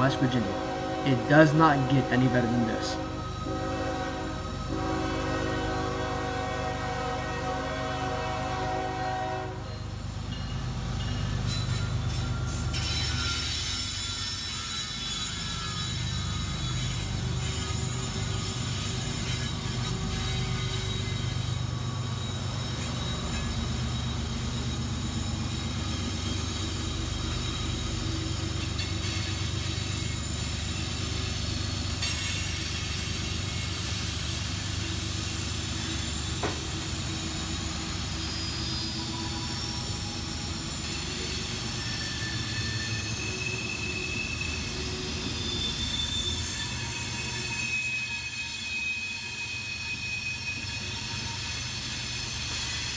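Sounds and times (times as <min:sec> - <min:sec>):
high wheel squeal: 0:00.0 - 0:07.7, 0:08.3 - 0:52.9
train rumbling past: 0:00.0 - 0:52.9.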